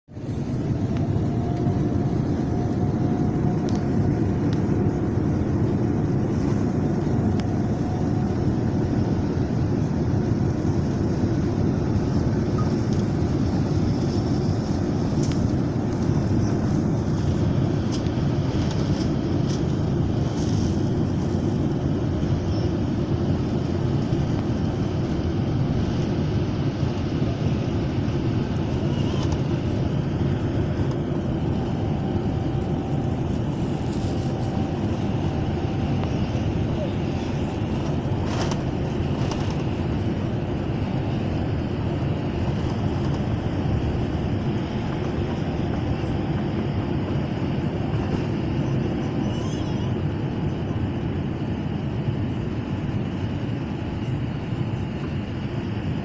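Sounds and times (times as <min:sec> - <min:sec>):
jet engines rumbling in cabin: 0:00.0 - 0:56.0.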